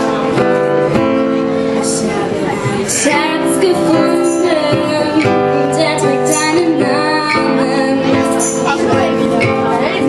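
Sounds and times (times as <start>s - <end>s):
live band playing: 0.0s - 10.0s
girl singing into microphone: 1.8s - 10.0s.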